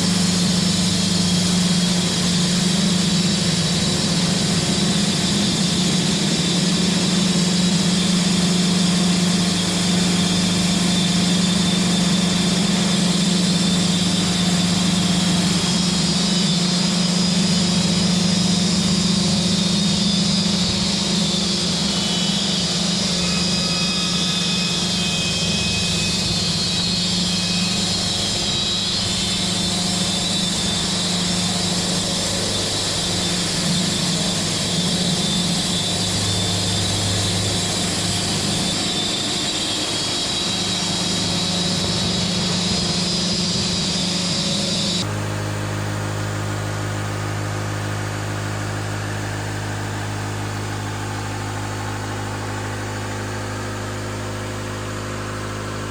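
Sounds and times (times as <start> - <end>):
engine idling: 0.0 - 55.9
engine running under load: 0.0 - 55.9.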